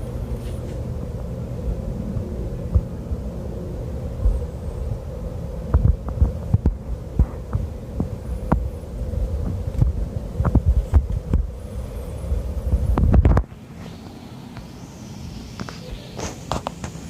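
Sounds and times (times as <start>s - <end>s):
helicopter rotor and engine hum: 0.0s - 17.0s.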